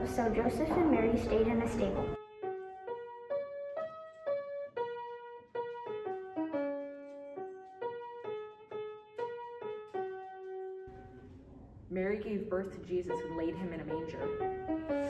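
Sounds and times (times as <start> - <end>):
slow piano melody: 0.0 - 11.9, 12.7 - 15.0.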